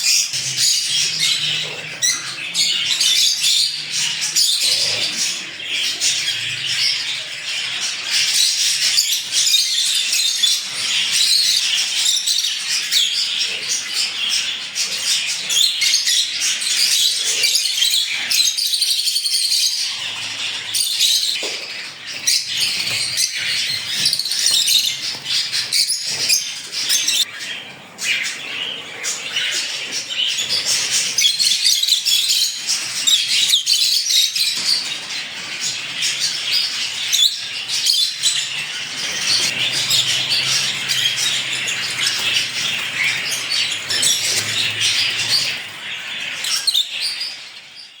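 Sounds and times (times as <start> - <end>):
parrots chirping and chattering: 0.0 - 48.0.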